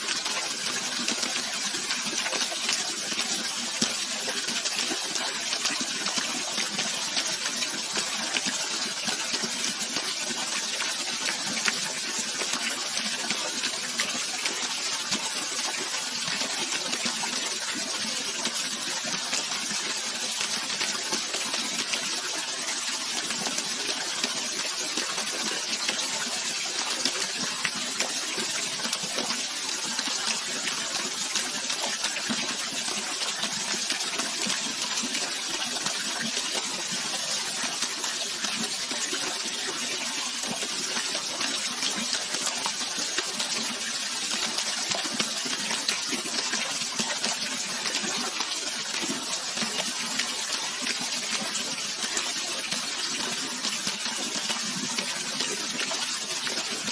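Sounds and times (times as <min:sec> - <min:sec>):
rushing flowing water: 0:00.0 - 0:56.9.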